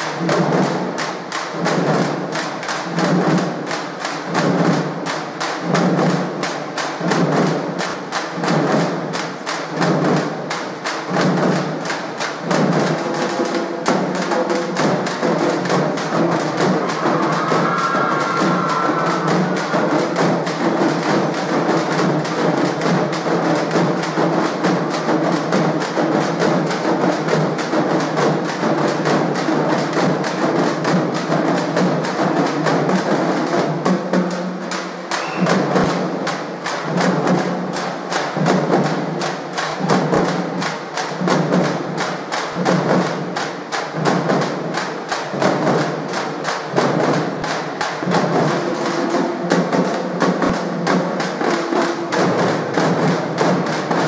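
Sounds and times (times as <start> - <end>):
drums: 0.0 - 54.0.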